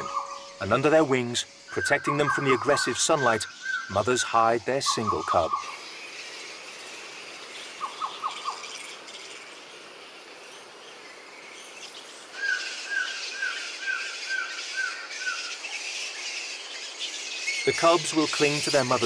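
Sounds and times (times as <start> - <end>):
birds and insects: 0.0 - 19.0.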